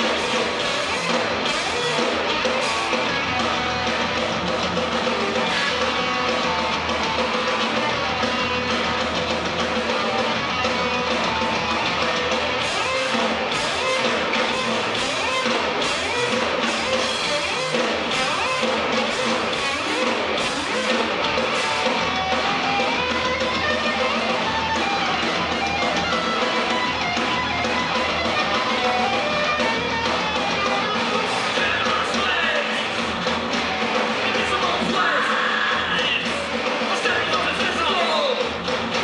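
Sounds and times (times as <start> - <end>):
distorted electric guitar: 0.0 - 39.0
drums: 0.0 - 39.0.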